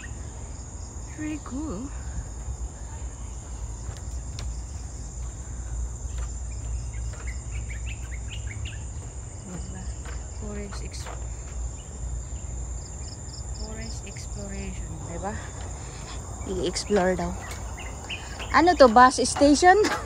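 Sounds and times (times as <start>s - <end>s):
insect chorus drone: 0.0s - 20.0s
bird chirps: 2.8s - 13.1s, 13.7s - 19.6s.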